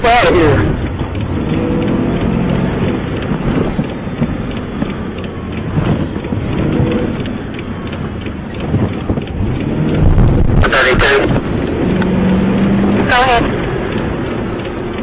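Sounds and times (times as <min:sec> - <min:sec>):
car engine running under load: 0:00.0 - 0:15.0
low rumble: 0:00.0 - 0:15.0.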